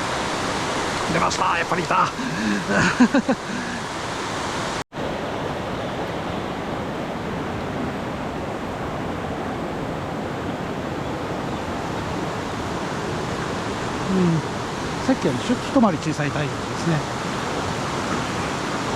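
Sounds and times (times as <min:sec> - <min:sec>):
stream rushing water: 0:00.0 - 0:18.9.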